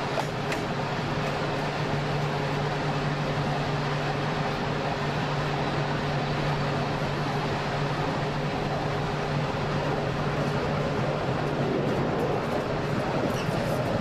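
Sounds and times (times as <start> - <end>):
wheel and rail rumble: 0.0 - 14.0.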